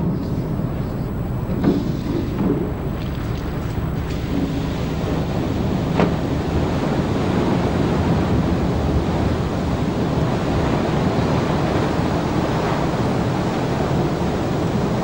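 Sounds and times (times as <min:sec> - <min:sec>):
heavy spray and waves: 0:00.0 - 0:15.0
water surging and churning: 0:00.0 - 0:15.0.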